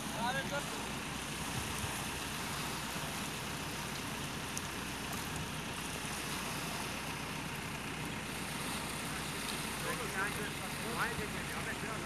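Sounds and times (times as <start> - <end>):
sea water washing at shore: 0.0 - 12.0.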